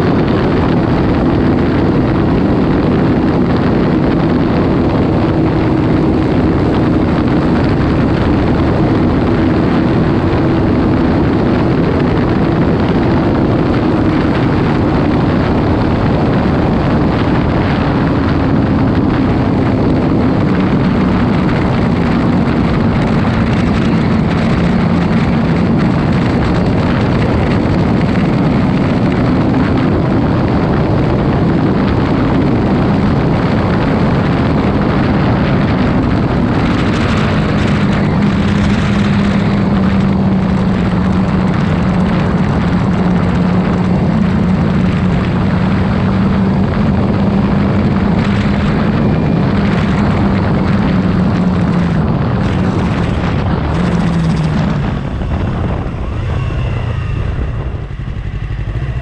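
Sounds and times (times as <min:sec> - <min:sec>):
motorcycle engine running hard: 0:00.0 - 0:59.0
wind rush on microphone: 0:00.0 - 0:59.0.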